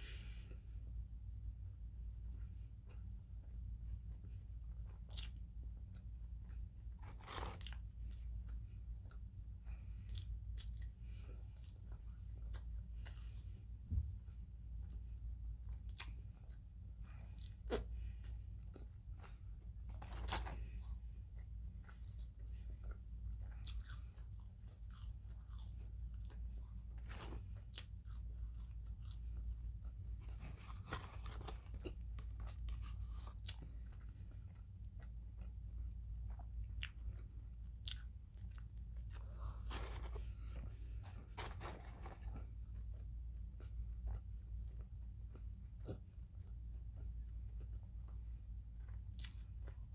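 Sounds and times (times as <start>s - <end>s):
person chewing food: 0.0s - 49.9s
steady low hum: 0.0s - 49.9s.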